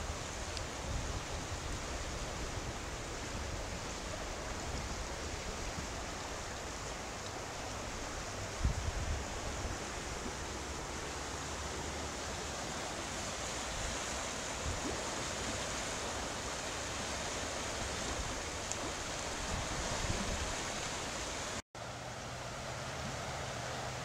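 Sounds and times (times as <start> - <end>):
water rushing over rapids: 0.0 - 24.0.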